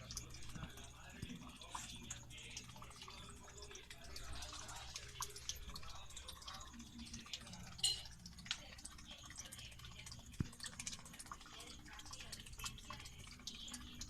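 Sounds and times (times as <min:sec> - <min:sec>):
water drips and splashes: 0:00.0 - 0:14.0.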